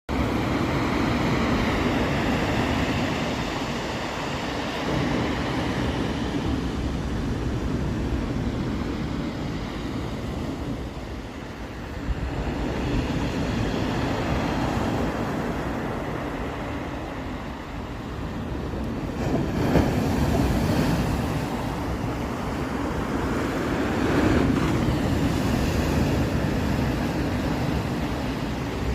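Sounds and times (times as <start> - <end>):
sea waves on beach: 0.1 - 28.9.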